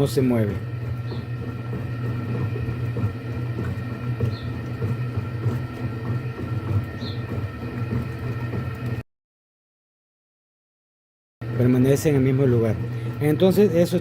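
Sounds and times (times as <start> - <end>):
washing machine motor hum: 0.0 - 9.0, 11.4 - 14.0.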